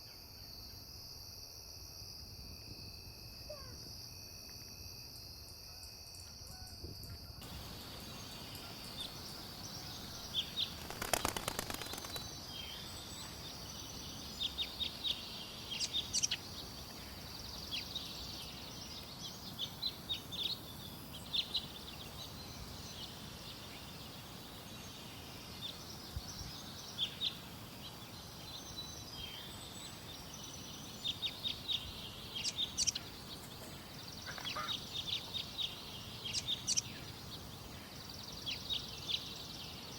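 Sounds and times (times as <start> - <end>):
birds chirping: 7.4 - 39.9
steady high hiss: 7.4 - 39.9.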